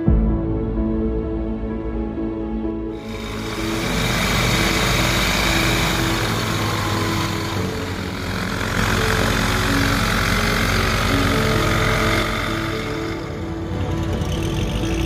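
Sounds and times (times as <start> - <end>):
light aircraft engine and propeller: 2.9 - 15.0.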